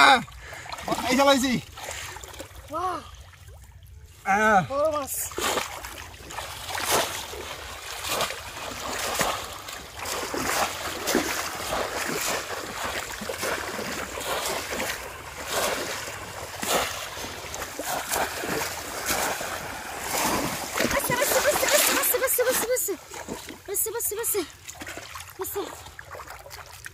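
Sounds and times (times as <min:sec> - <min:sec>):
wading through shallow water: 0:00.0 - 0:26.9
water splashing and sloshing: 0:00.0 - 0:26.9.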